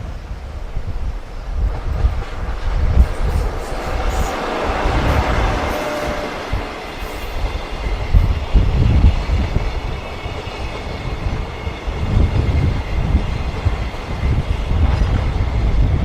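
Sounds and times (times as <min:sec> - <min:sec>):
freight train rolling past: 0:00.0 - 0:16.0
wind buffeting microphone: 0:00.0 - 0:16.0.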